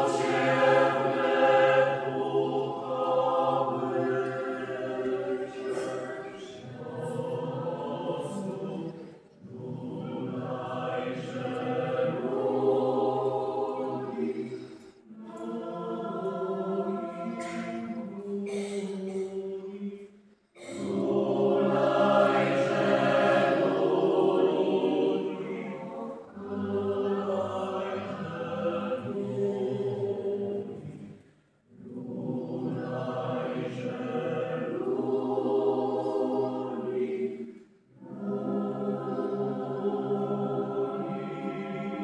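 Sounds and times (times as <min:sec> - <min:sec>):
mixed choir singing unaccompanied: 0:00.0 - 0:42.0.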